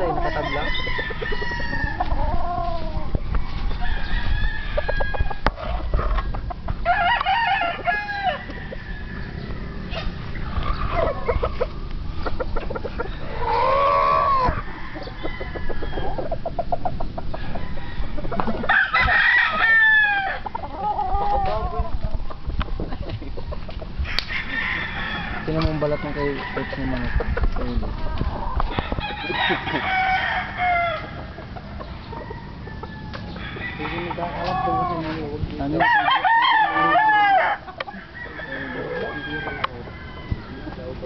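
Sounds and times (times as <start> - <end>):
roosters clucking: 0.0 - 41.0
roosters crowing: 0.0 - 41.0.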